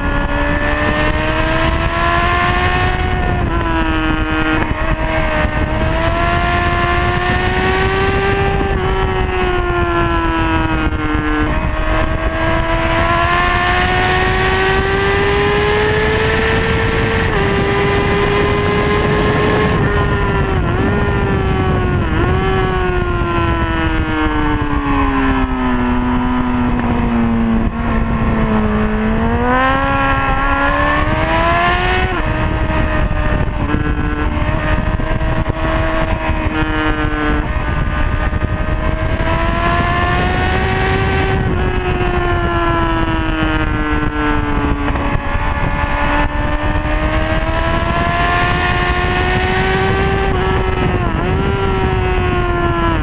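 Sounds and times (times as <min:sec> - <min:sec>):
motorcycle engine at high revs: 0:00.0 - 0:53.0
wind rush: 0:00.0 - 0:53.0.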